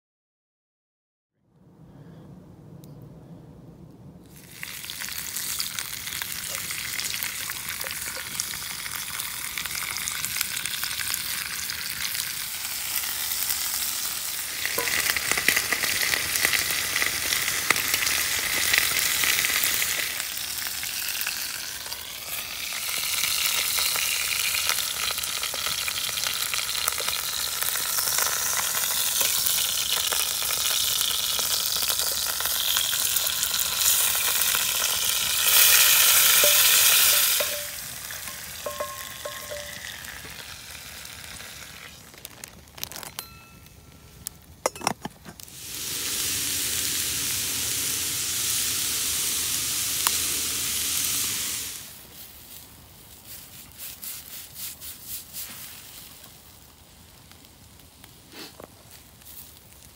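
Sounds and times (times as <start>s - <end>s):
vegetables sizzling in a pot: 4.3s - 43.6s, 45.4s - 59.9s.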